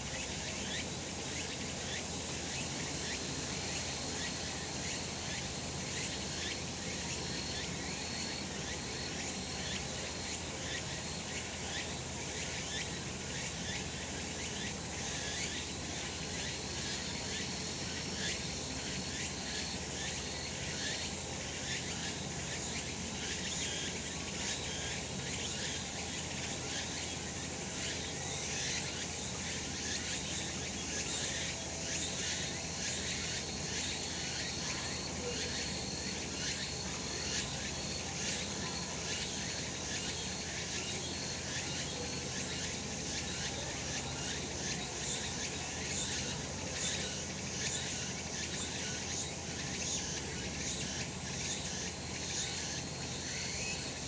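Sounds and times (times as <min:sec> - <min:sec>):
cicadas buzzing chorus: 0:00.0 - 0:54.0.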